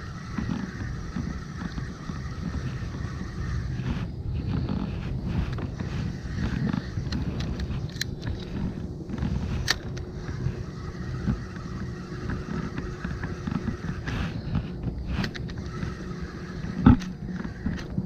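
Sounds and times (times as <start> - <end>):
fishing reel cranking: 0.0 - 18.0
wind rumble on microphone: 0.0 - 18.0.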